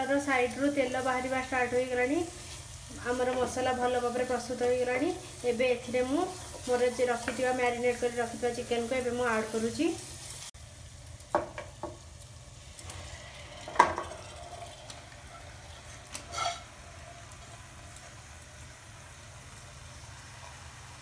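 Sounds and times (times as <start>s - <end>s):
low sizzle: 0.0s - 21.0s.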